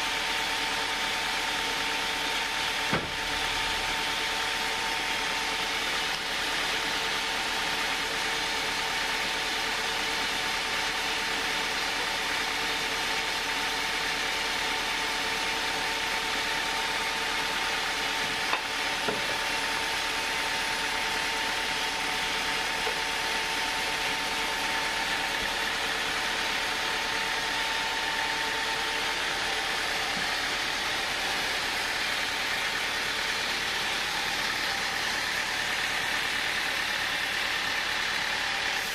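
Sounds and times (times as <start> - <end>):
band sawmill machine drone: 0.0 - 38.9.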